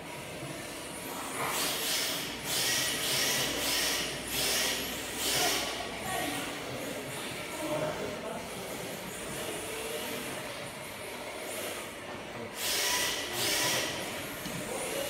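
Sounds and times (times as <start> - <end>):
large hall background noise: 0.0 - 15.0.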